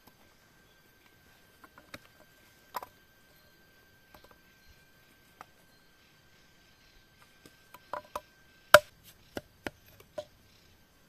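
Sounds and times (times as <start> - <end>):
faint steady high tone: 0.0 - 8.9.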